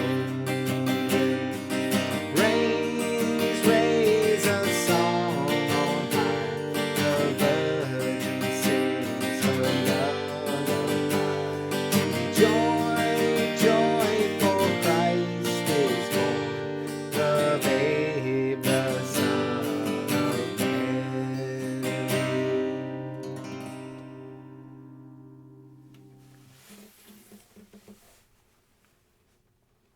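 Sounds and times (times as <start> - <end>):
acoustic guitar picked and strummed: 0.0 - 28.6.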